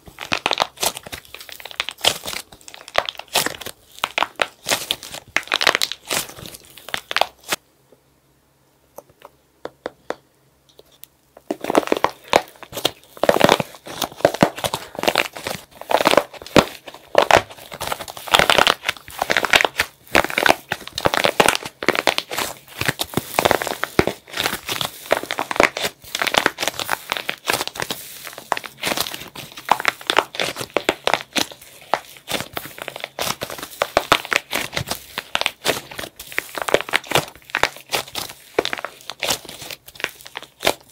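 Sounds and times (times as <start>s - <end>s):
dried plaster cracking and crunching: 0.0s - 7.6s, 11.4s - 40.9s.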